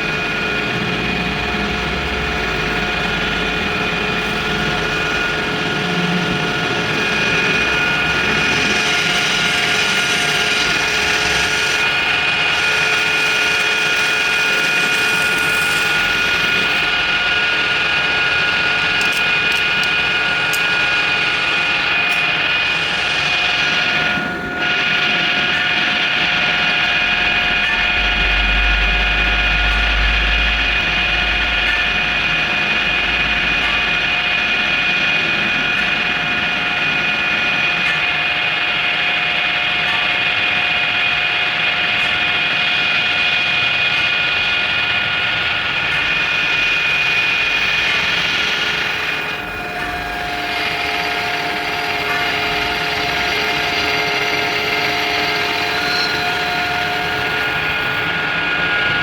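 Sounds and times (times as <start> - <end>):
workshop machine running with whine: 0.0 - 59.0.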